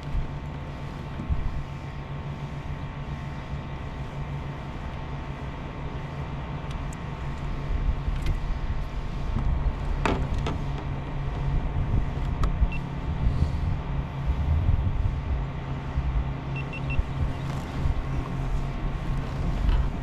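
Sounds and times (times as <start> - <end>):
boat motor running: 0.0 - 20.0.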